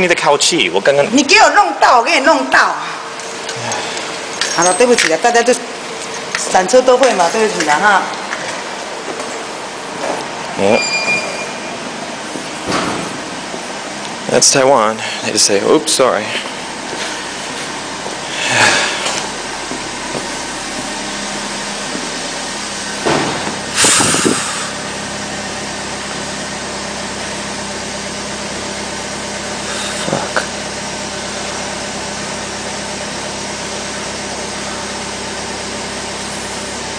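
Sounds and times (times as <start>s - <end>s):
car engine humming: 0.0s - 36.9s.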